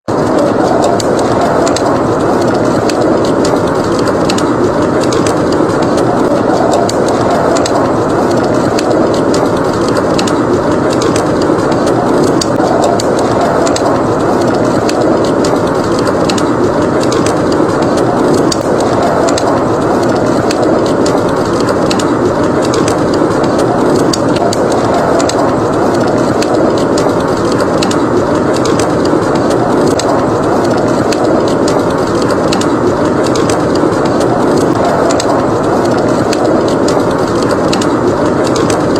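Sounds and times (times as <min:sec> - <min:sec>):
howling wind: 0:00.0 - 0:38.9
wood fire crackling: 0:00.1 - 0:38.9.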